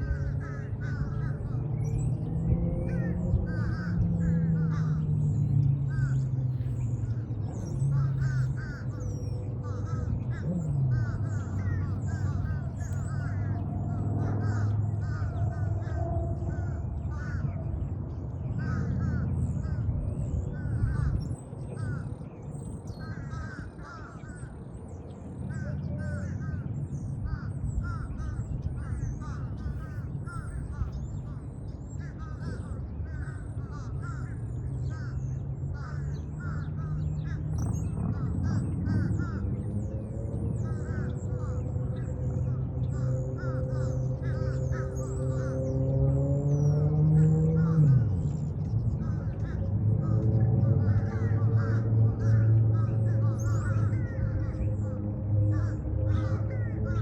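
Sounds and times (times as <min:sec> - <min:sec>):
steady low rumble: 0:00.0 - 0:57.0
wild birds calling: 0:00.0 - 0:57.0.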